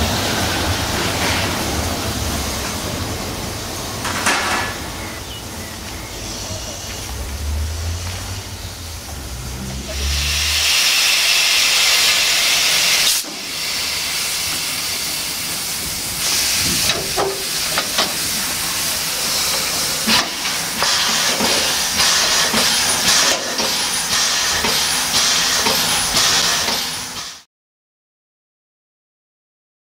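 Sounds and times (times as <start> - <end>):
steam locomotive hissing steam: 0.0 - 27.5.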